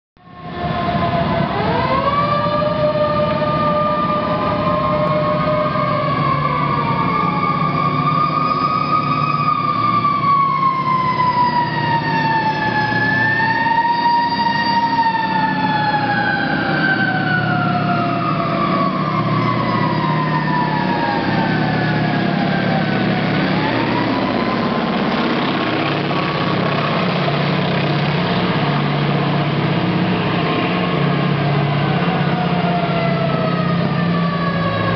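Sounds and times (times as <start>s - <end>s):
siren wailing: 0.2s - 34.9s
military vehicle engines running: 2.8s - 34.9s.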